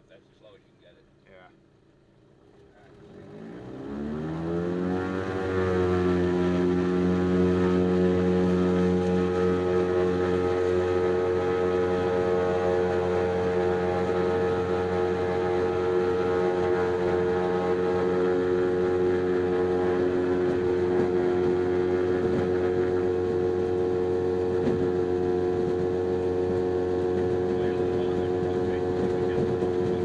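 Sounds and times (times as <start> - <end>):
aircraft engine and propeller: 1.6 - 30.0.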